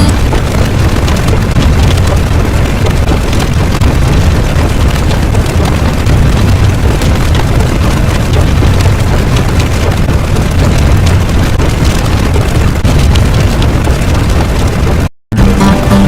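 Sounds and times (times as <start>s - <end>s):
explosion-like bass rumble: 0.0s - 16.0s.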